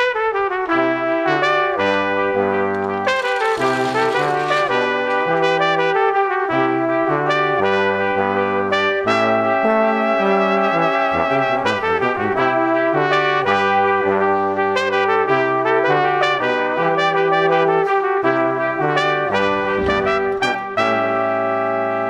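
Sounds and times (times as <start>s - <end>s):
brass instruments playing held notes: 1.6s - 21.8s.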